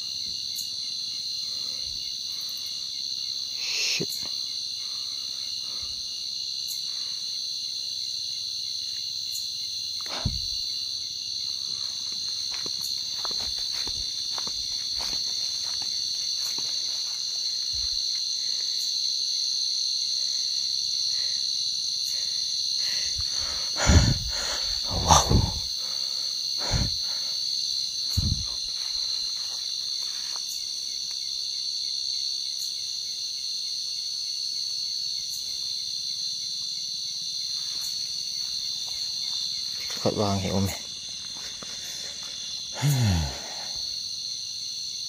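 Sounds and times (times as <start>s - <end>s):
night insects trilling: 0.0s - 45.0s.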